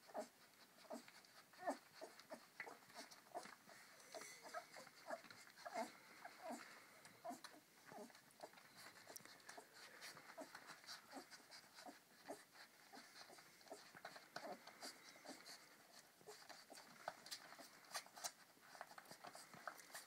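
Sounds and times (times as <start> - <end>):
puppies squeaking and grunting: 0.0 - 20.0.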